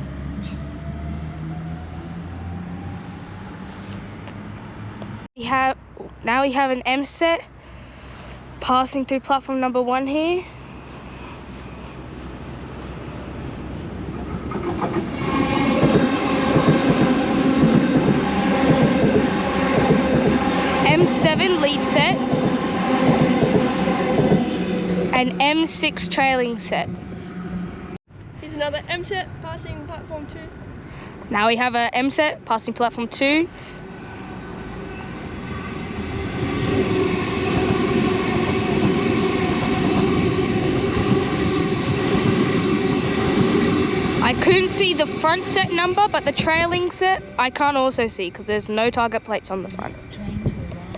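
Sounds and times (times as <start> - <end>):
electric train passing: 0.0 - 50.9.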